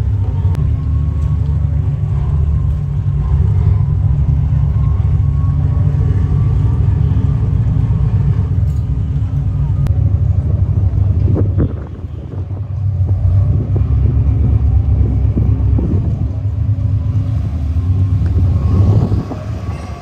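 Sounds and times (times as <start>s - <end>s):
boat engines rumbling: 0.0s - 20.0s.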